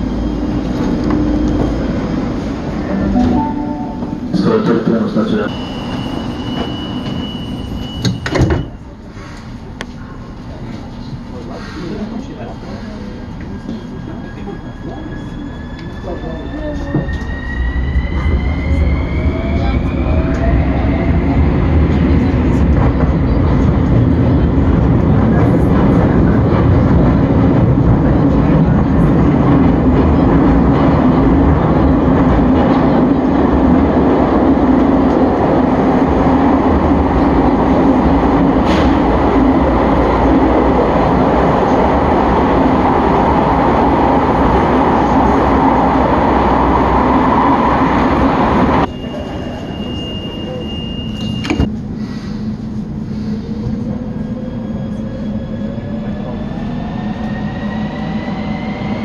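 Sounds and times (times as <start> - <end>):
train wheels rumbling on rail: 4.0 - 59.0.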